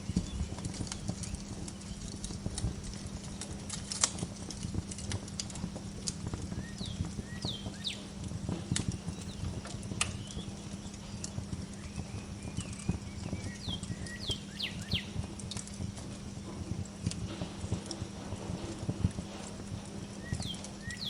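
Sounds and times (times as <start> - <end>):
birds chirping: 0.0 - 3.8, 5.1 - 21.0
wood fire crackling: 0.0 - 21.0.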